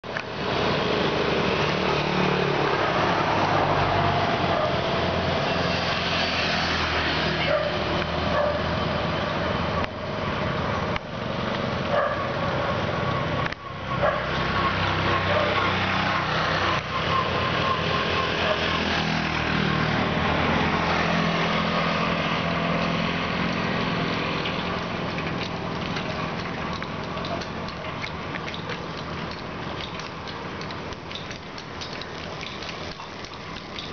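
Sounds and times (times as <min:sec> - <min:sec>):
motorbike engines passing: 0:00.1 - 0:33.9
car passing: 0:00.4 - 0:33.9.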